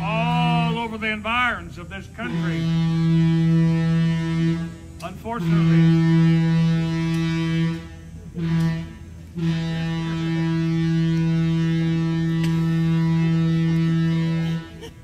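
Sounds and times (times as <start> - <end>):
train horn blasts: 2.2 - 14.9.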